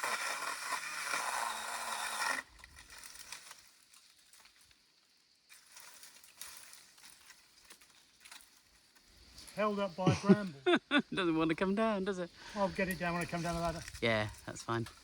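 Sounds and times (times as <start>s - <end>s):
branches rustling and scraping: 0.0s - 10.1s, 11.4s - 15.0s
faint crackles: 0.0s - 10.5s, 12.4s - 15.0s.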